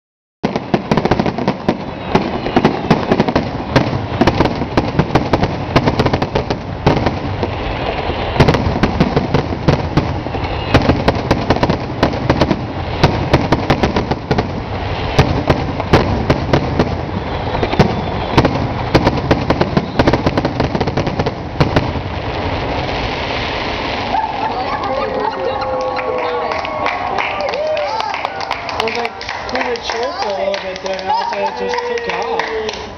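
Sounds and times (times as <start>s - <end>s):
fireworks bursting: 0.4s - 32.9s.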